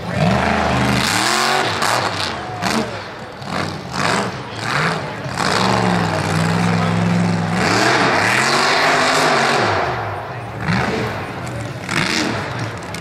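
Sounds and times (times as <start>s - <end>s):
truck engine revving hard: 0.0s - 13.0s.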